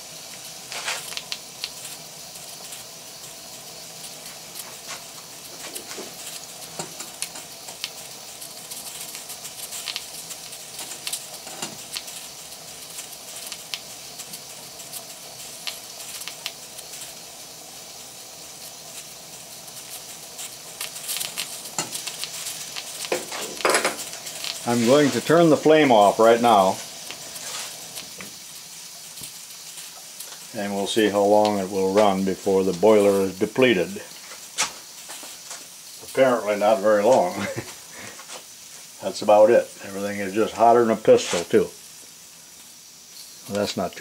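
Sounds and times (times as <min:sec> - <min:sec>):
crackling spits of water: 0:00.0 - 0:44.0
steam hissing: 0:00.0 - 0:44.0.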